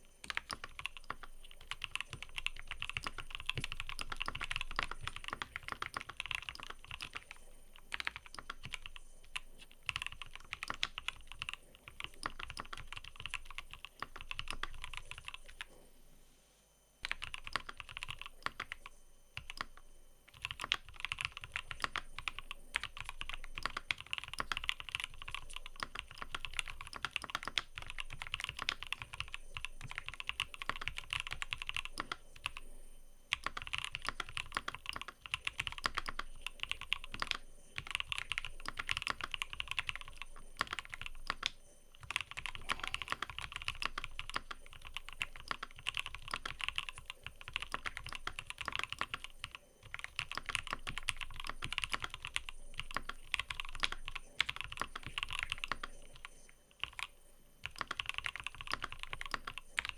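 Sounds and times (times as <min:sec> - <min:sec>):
fast mechanical keyboard typing: 0:00.2 - 0:15.7, 0:17.0 - 0:32.7, 0:33.3 - 0:59.9.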